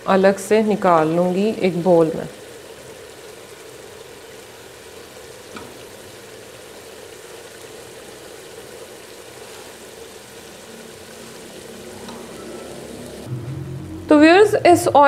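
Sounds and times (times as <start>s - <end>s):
gravy bubbling and sizzling: 0.0s - 14.6s.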